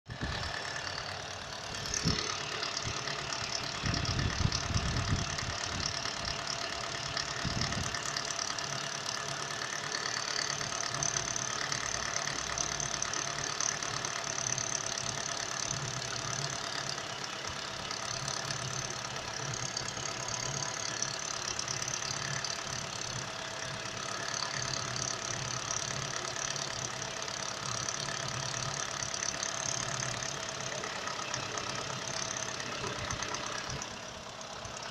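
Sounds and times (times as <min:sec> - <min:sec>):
car engine idling with knocking: 0:00.1 - 0:34.9.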